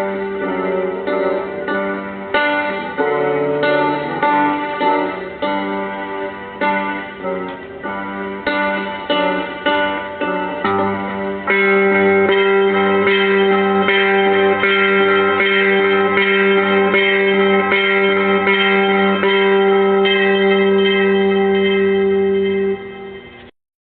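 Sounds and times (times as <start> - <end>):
ringing struck notes: 0.0 - 23.5.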